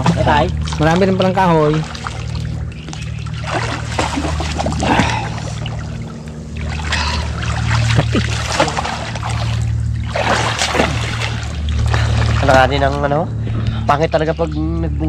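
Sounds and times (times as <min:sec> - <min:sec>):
water sloshing as people wade: 0:00.0 - 0:14.9
steady low hum: 0:00.0 - 0:15.0.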